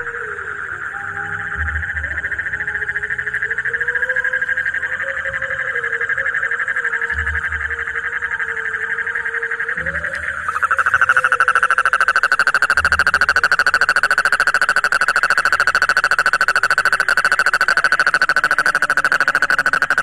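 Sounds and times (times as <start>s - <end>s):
toad trilling: 0.0s - 20.0s.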